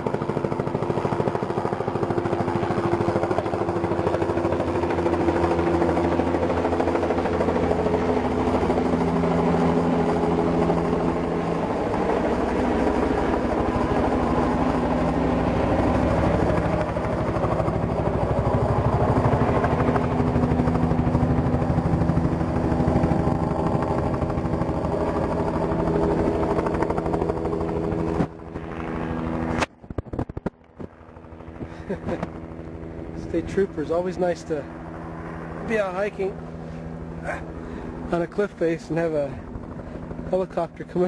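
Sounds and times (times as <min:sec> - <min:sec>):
helicopter rotor passing overhead: 0:00.0 - 0:41.0.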